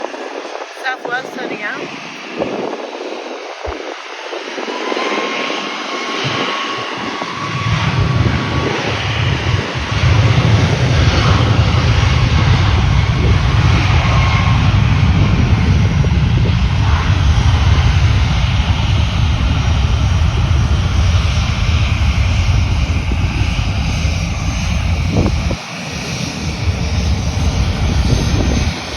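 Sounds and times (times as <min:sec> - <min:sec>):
jet engines at takeoff: 0:00.0 - 0:28.9.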